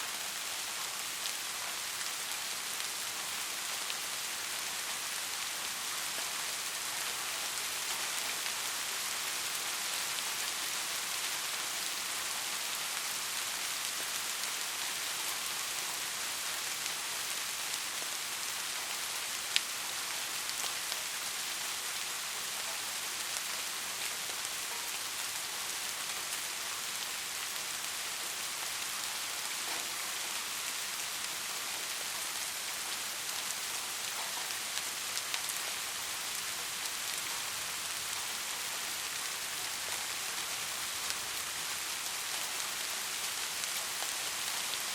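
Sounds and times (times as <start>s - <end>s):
rain on foliage: 0.0s - 44.9s.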